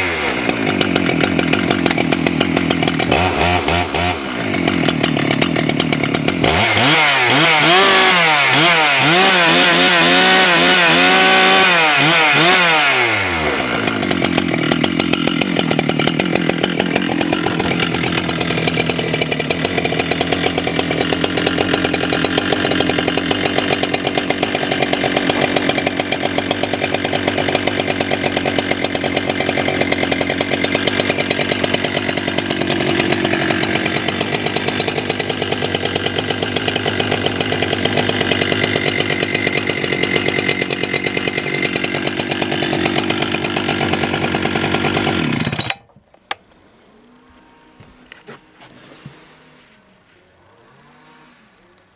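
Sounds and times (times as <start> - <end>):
chainsaw revving and idling: 0.0 - 45.9.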